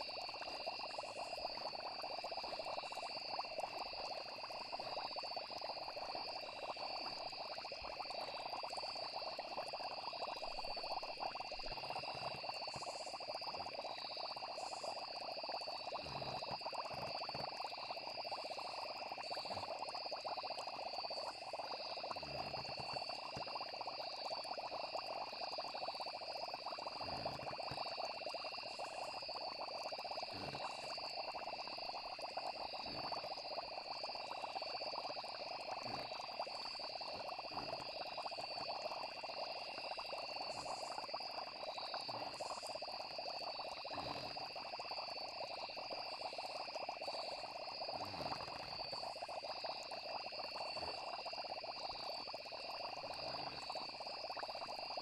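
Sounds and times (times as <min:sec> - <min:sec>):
frogs and insects calling: 0:00.0 - 0:55.0
low bubbling: 0:00.0 - 0:55.0.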